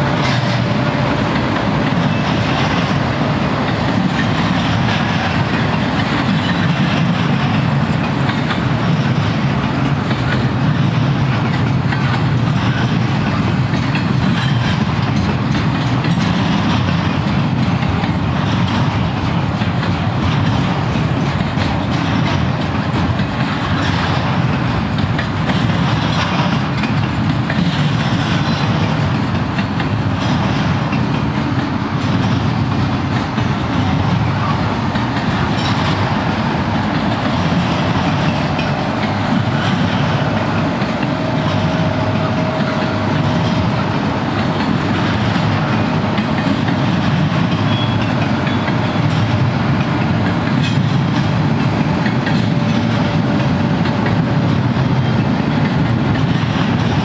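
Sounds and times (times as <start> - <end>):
train wheels rumbling on rail: 0.0 - 57.0
wheels clickety-clack: 0.0 - 57.0.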